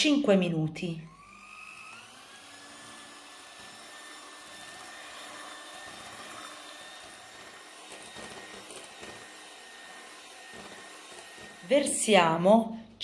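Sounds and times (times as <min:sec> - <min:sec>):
electric hand mixer whining: 0:01.0 - 0:13.0.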